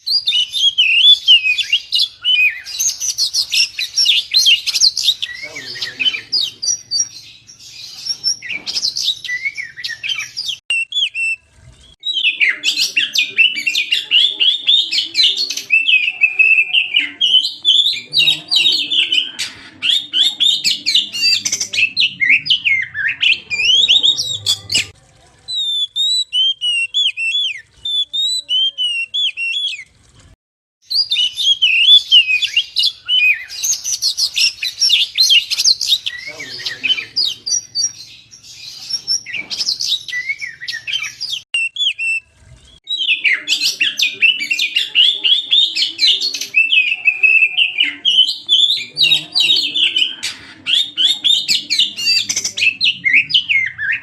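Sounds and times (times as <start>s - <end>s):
bird singing whistles and trills: 0.0s - 24.9s, 25.5s - 29.9s, 30.9s - 54.0s.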